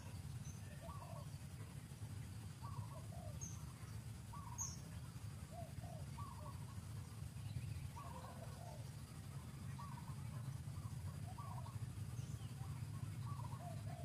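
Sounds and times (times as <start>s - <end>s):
chirping animal calls: 0.0s - 1.4s, 2.5s - 7.0s, 7.8s - 14.0s.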